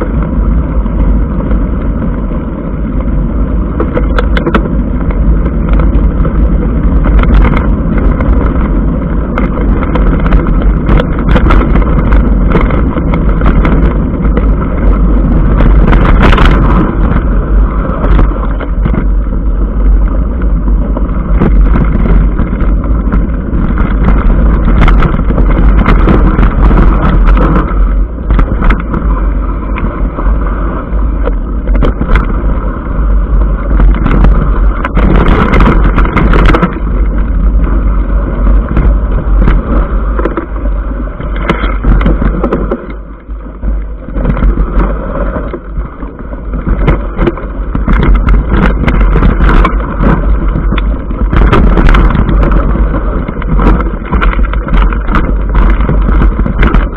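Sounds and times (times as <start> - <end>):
bike rattling and knocking: 0.0 - 56.9
wind buffeting microphone: 0.0 - 56.9.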